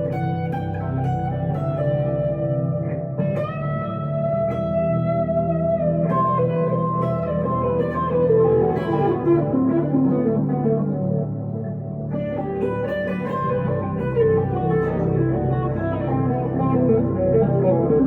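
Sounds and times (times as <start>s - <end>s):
electric guitar lead line: 0.0s - 18.0s.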